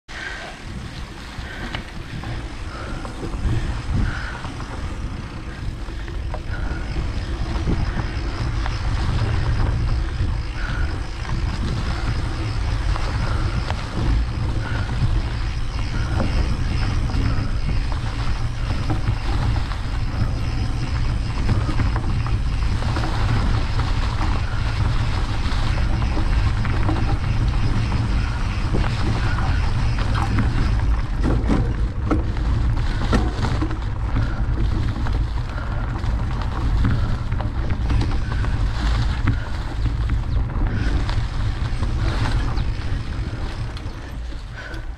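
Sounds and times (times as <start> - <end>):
wind buffeting microphone: 0.1 - 44.9.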